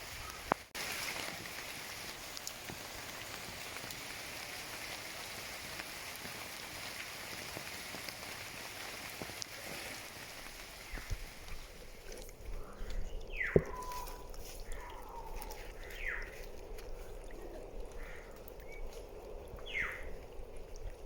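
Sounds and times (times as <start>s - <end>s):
steady rain falling: 0.0s - 21.0s
raindrops ticking: 0.2s - 21.0s.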